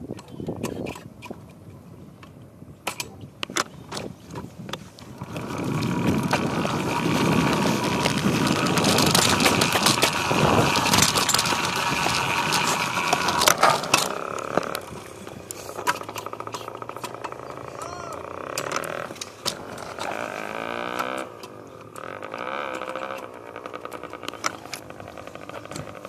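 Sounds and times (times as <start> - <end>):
wind and road noise: 0.0 - 26.0
dirt bike engine running: 5.0 - 26.0.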